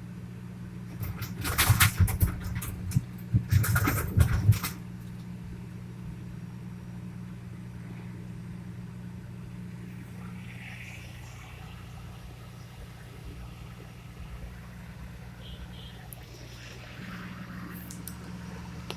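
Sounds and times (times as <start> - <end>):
low machine hum: 0.0 - 18.9.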